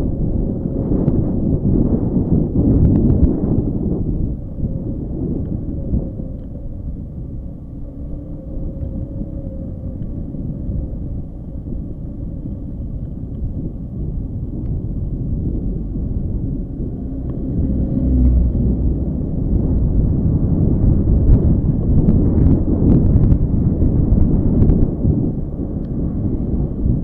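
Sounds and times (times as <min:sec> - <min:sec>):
motorcycle engine rumbling: 0:00.0 - 0:27.0
wind buffeting microphone: 0:00.0 - 0:27.0.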